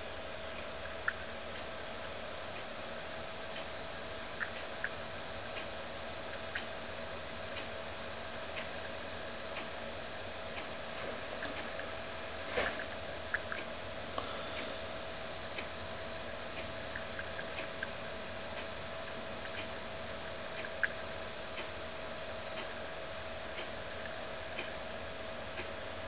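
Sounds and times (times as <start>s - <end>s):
steady faint hum: 0.0s - 26.0s.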